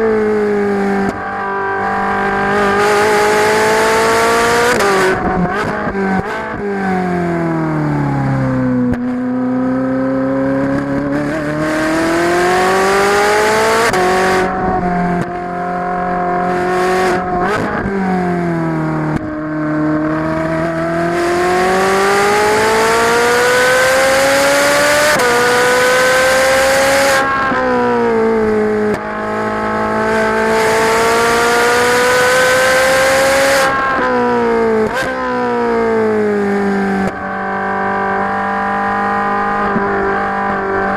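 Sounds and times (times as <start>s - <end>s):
sports car engine accelerating: 0.0s - 40.9s.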